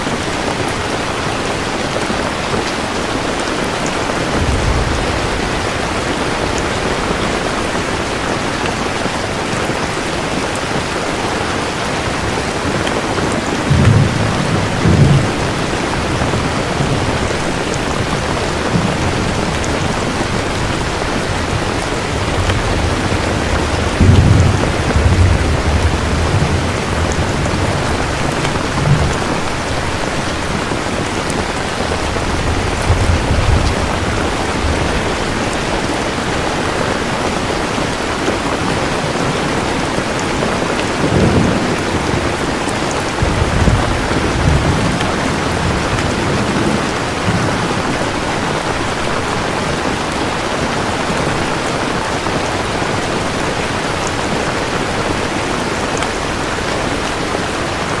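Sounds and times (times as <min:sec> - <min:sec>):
heavy rain: 0:00.0 - 0:58.0
thunder rumbling: 0:00.0 - 0:58.0.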